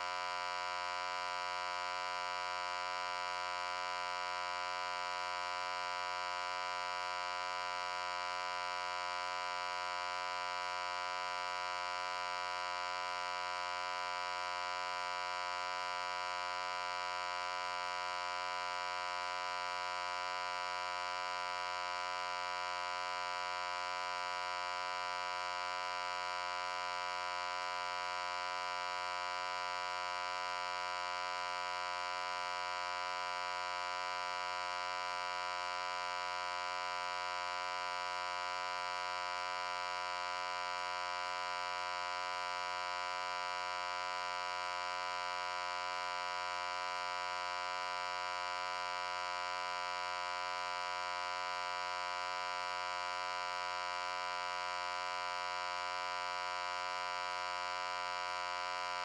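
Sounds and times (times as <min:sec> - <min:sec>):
loud steady buzzy hum: 0:00.0 - 0:59.0.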